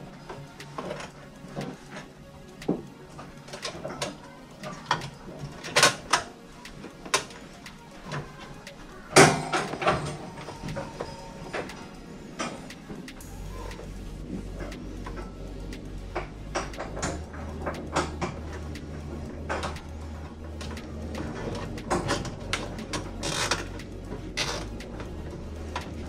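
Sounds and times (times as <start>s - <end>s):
plastic parts clicking and rattling: 0.0s - 13.2s, 14.5s - 26.0s
cable ties ratcheting: 0.0s - 26.0s.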